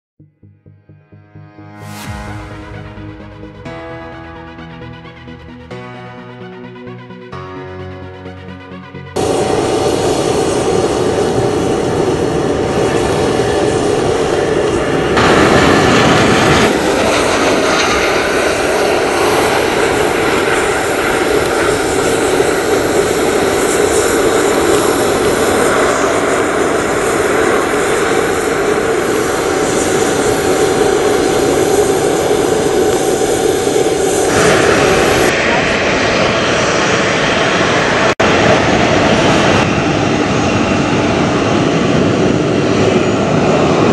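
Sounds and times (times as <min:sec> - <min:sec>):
jet engine rumble: 0:01.8 - 0:43.9.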